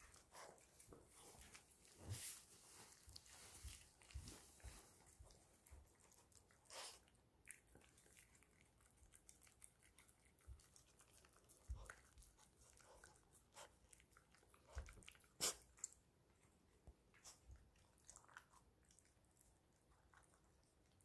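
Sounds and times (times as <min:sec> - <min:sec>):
dog licking and chewing: 0:00.0 - 0:21.0.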